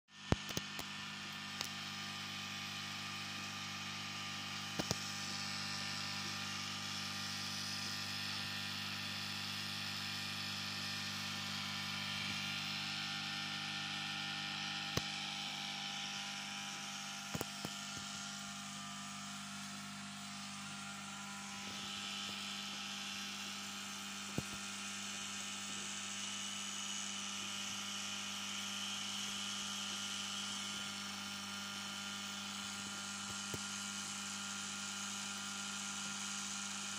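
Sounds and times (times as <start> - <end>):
aquarium pump humming: 0.1 - 36.9.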